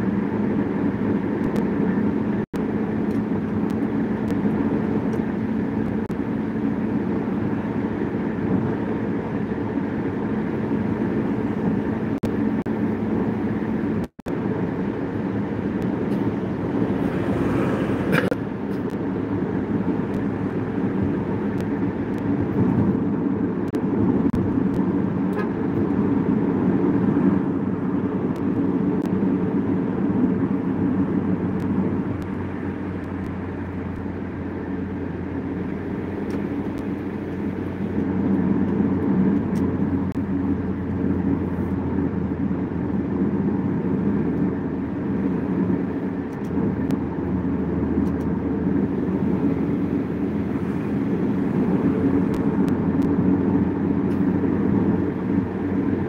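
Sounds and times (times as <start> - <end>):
car cabin road and engine noise: 0.0 - 56.0.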